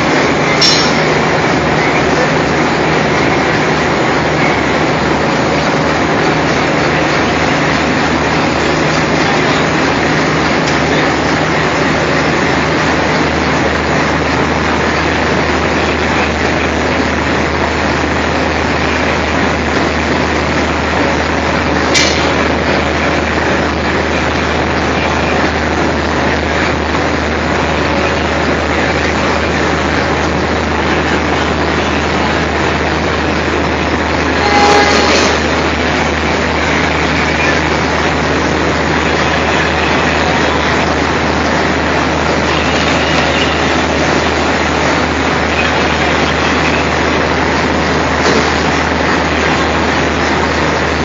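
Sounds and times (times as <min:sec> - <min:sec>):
model trains running on track: 0:00.0 - 0:51.0.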